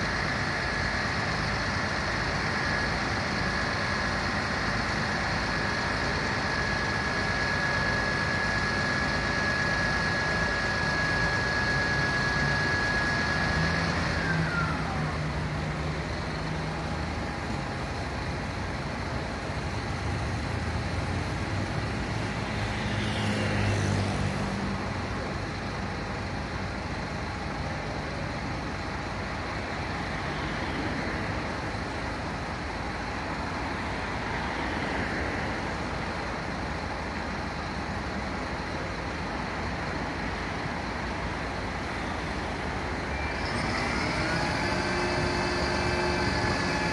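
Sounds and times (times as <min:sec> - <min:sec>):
street traffic: 0:00.0 - 0:46.9
truck engine running: 0:00.0 - 0:46.9.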